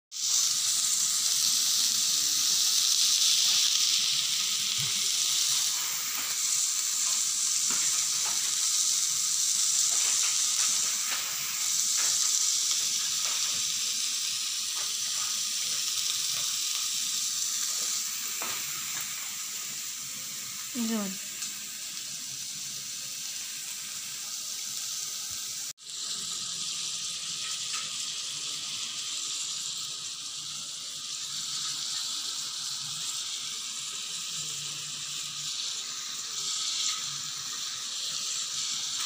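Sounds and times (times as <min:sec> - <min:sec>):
vegetables sizzling in a wok: 0:00.1 - 0:39.0.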